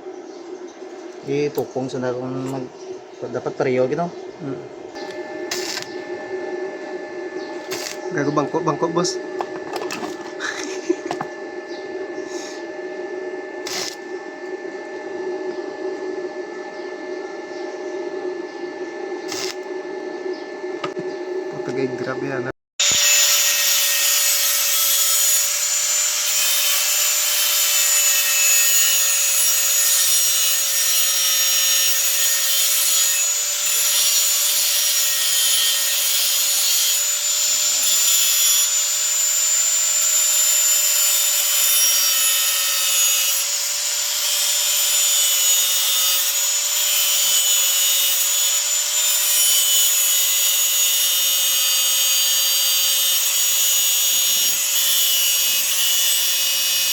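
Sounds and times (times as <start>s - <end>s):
machine whine: 0.0s - 56.9s.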